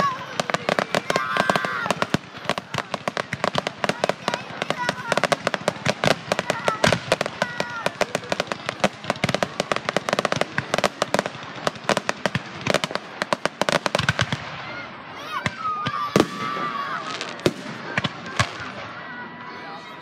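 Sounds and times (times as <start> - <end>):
fireworks crackling pops: 0.0 - 18.9
fireworks loud bangs: 0.0 - 19.0.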